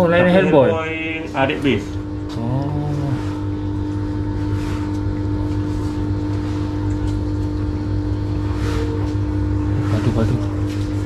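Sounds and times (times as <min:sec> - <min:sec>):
steady low machine hum: 0:00.0 - 0:11.0.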